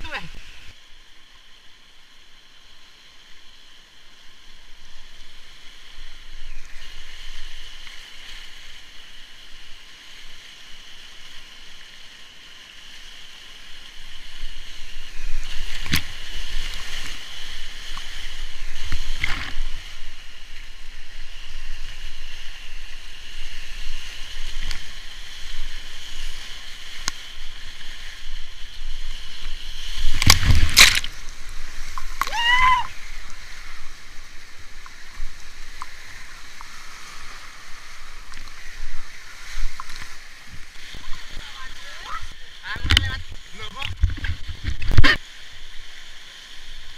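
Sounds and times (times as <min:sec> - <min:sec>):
paddle and waves splashing: 0:00.0 - 0:46.9
white-water rapids rushing: 0:04.4 - 0:46.9.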